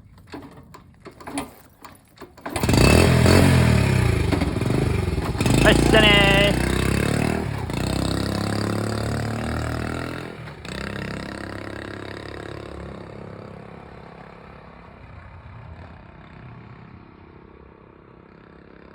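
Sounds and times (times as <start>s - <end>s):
motorbike engine pulling away: 0.0s - 18.9s.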